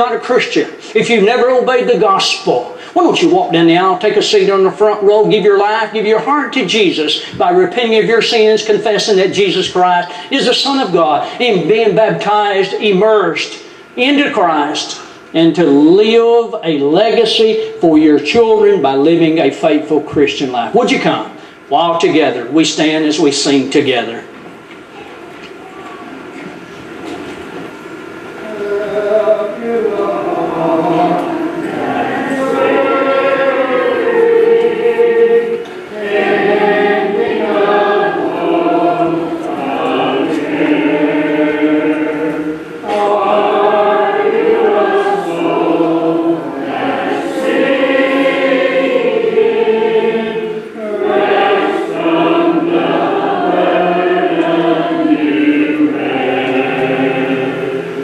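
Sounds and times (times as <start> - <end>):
congregation singing a hymn: 0.0 - 24.3, 26.4 - 58.0.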